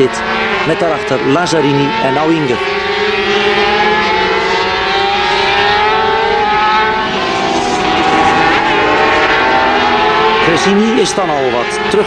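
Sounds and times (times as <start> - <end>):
racing motorcycles at high revs: 0.0 - 12.0.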